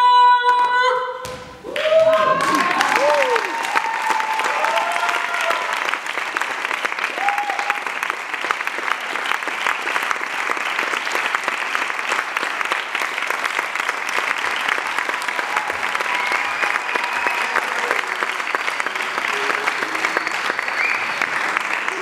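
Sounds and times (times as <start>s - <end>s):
audience applauding: 1.6s - 22.0s.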